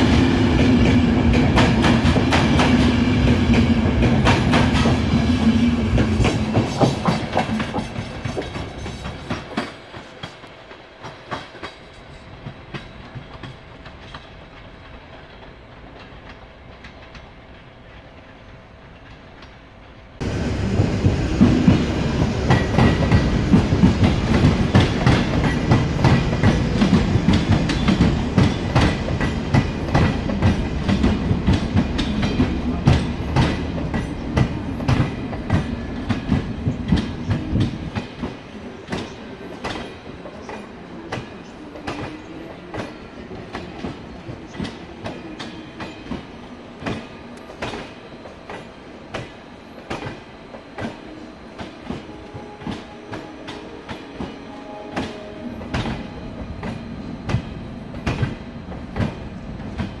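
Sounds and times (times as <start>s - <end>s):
train wheels clicking over rail joints: 0.0s - 54.4s, 55.0s - 60.0s.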